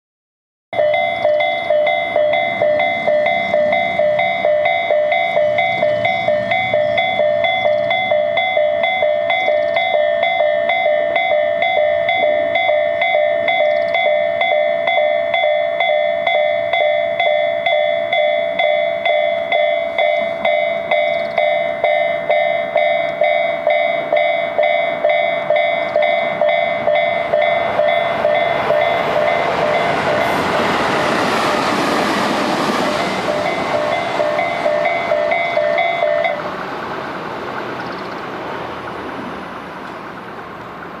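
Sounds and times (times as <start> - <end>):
level crossing warning bells: 0.7 - 41.0
train passing: 0.8 - 41.0.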